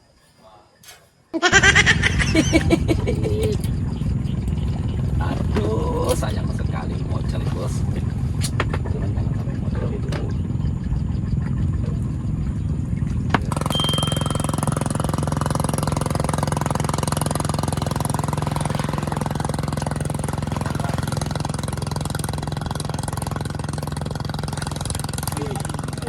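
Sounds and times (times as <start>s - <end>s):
engine running: 1.6s - 26.0s.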